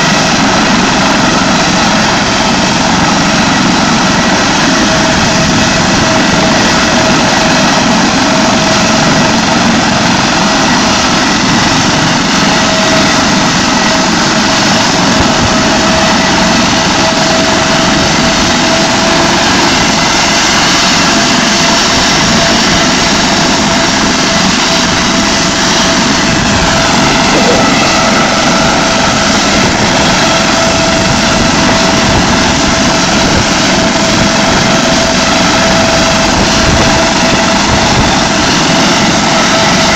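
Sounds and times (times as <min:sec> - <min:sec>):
helicopter turbine whine: 0:00.0 - 0:39.9
rush of rotor and engine: 0:00.0 - 0:39.9.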